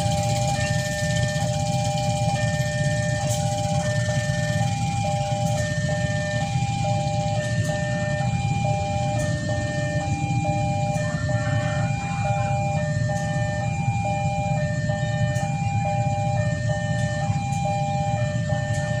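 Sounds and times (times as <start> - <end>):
level crossing warning alarm: 0.0 - 19.0.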